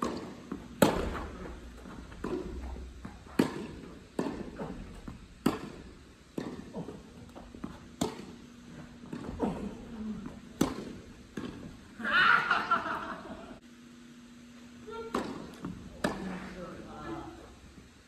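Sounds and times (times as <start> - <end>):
rackets hitting tennis balls: 0.0 - 13.1, 14.7 - 17.9.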